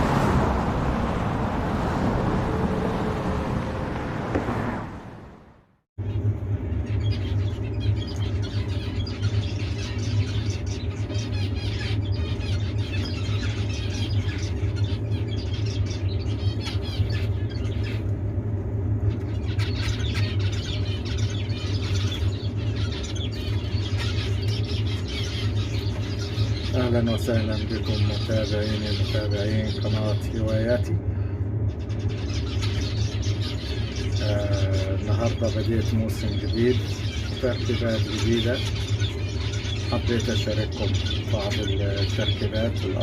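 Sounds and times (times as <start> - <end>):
steady low hum: 0.0 - 43.0
finches chattering: 6.0 - 43.0.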